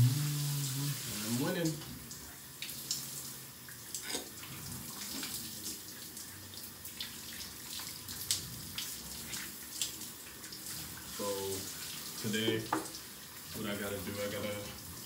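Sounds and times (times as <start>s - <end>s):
shower spray running: 0.0s - 4.3s, 5.0s - 15.0s.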